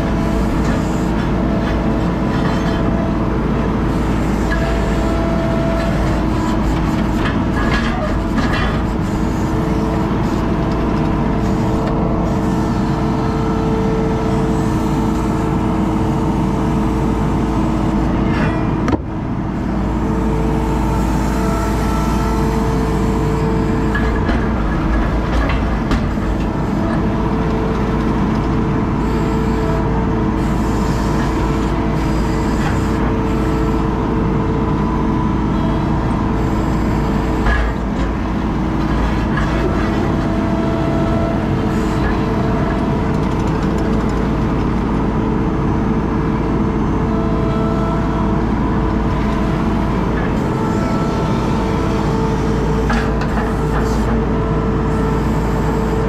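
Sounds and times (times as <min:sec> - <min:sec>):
loader engine and hydraulic drone: 0:00.0 - 0:56.0.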